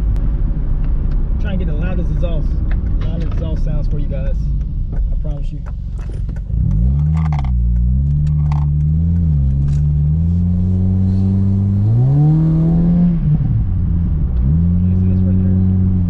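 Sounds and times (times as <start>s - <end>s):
exhaust popping and crackling: 0.0s - 16.0s
car engine revving: 1.1s - 16.0s.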